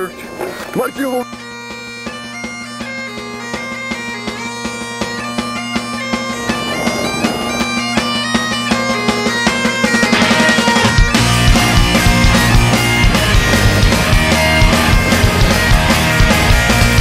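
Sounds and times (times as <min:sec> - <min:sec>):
bagpipes playing a melody: 0:00.0 - 0:17.0.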